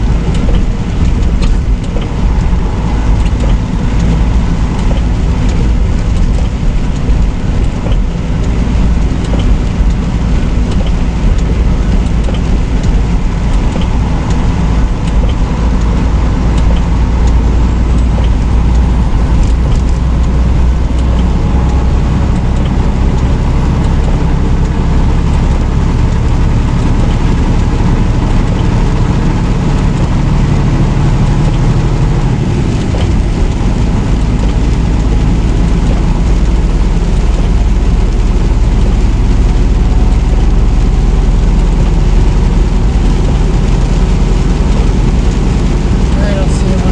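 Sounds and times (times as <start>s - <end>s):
truck engine and tyre rumble: 0.0s - 46.9s.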